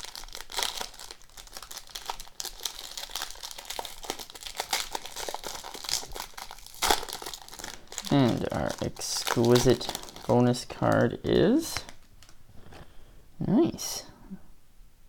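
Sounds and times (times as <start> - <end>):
card pack wrapper crinkling and tearing: 0.0 - 12.9.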